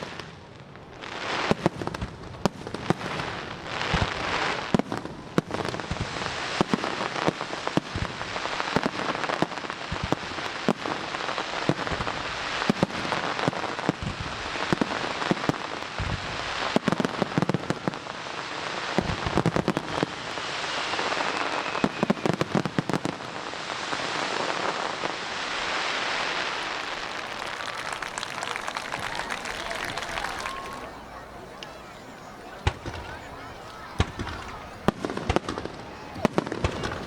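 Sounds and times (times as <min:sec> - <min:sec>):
fireworks crackling hiss: 0:00.0 - 0:37.0
fireworks bangs: 0:00.9 - 0:37.0.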